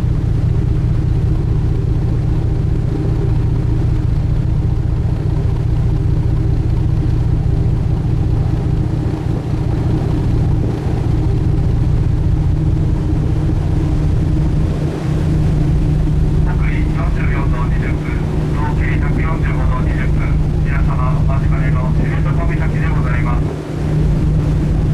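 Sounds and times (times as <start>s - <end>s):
boat engine rumbling: 0.0s - 24.9s.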